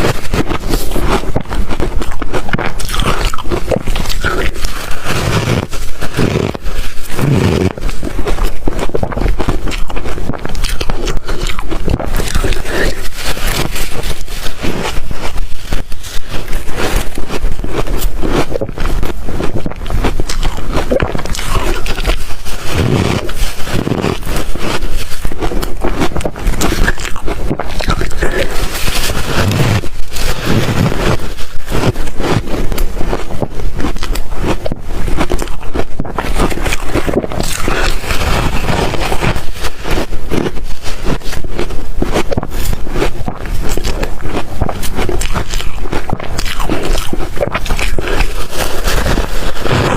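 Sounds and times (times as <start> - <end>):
ice being crunched and chewed: 0.0 - 49.9.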